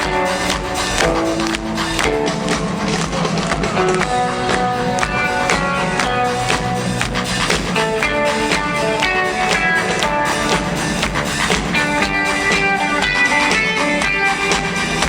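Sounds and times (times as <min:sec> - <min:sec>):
drum kit beat: 0:00.0 - 0:15.0
electric guitar lines: 0:00.0 - 0:15.0.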